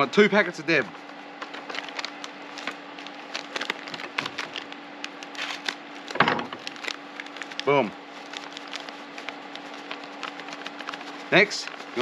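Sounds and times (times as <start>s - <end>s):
packet crinkling and tearing: 1.4s - 12.0s.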